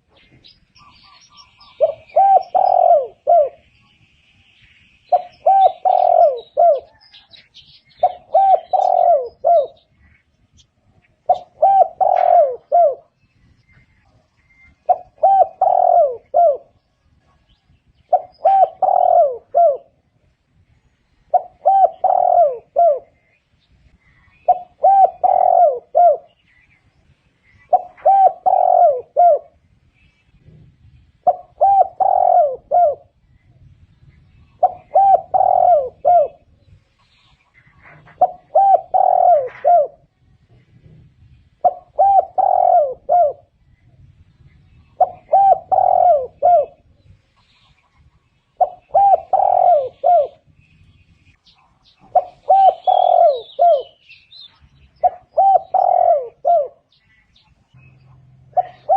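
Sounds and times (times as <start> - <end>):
dove cooing: 0.0 - 4.0, 5.1 - 20.6, 21.2 - 23.4, 24.0 - 26.7, 27.4 - 29.7, 30.3 - 58.9.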